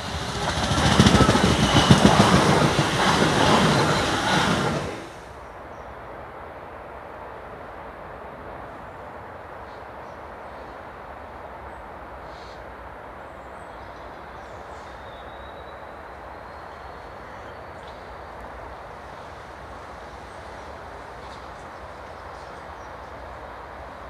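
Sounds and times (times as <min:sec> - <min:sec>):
distant train rumble: 0:00.0 - 0:06.4, 0:07.4 - 0:24.0.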